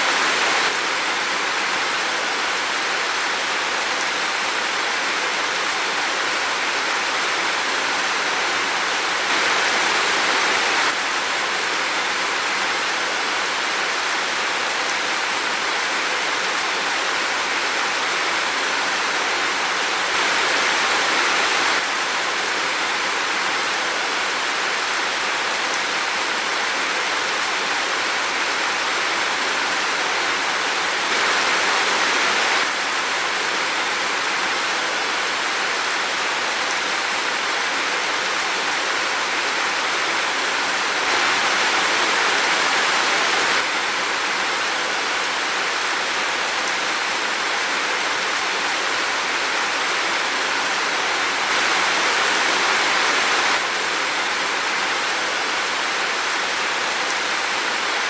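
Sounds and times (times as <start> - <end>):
heavy windy rain: 0.0 - 58.0.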